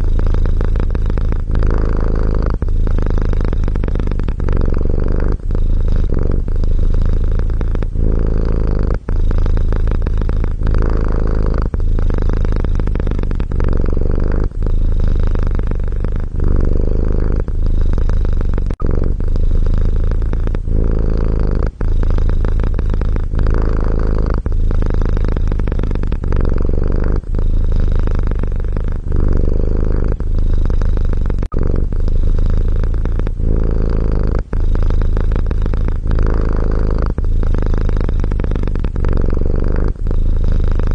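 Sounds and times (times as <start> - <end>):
cat purring: 0.0 - 40.9.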